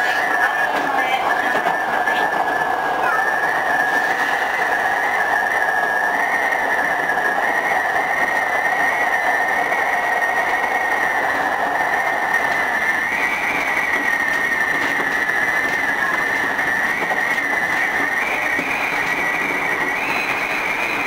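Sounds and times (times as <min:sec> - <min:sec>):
steady high whine: 0:00.0 - 0:21.0
train wheel running noise: 0:00.0 - 0:21.0.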